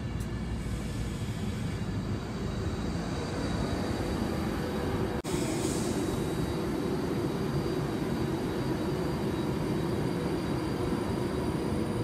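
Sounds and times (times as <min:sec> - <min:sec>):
faint high whines: 0:00.0 - 0:12.0
train rumbling past: 0:00.0 - 0:12.0.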